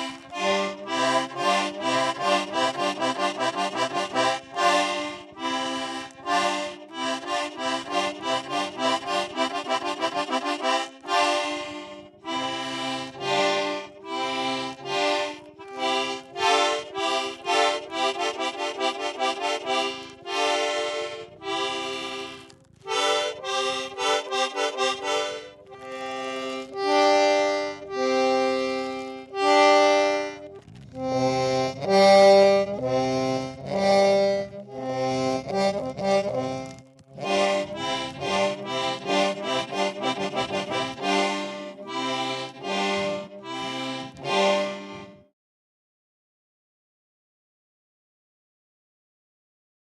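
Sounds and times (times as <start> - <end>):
accordion notes and chords: 0.0 - 45.3.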